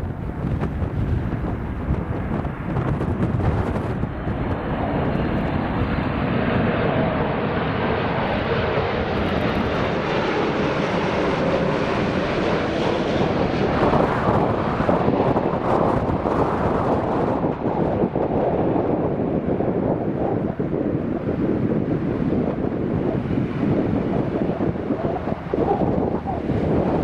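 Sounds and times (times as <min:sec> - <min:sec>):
jet airliner engines rumbling: 0:00.0 - 0:27.0.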